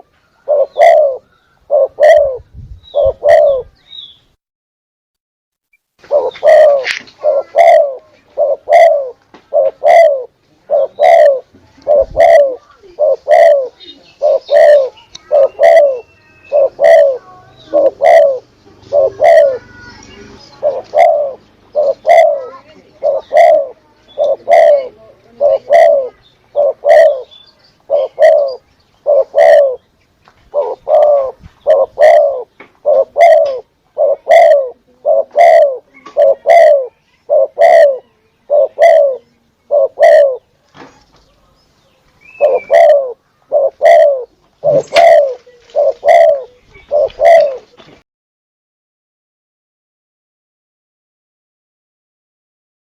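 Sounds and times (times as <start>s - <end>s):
dove cooing: 0.0s - 3.8s, 6.0s - 29.9s, 30.5s - 40.5s, 42.2s - 47.8s.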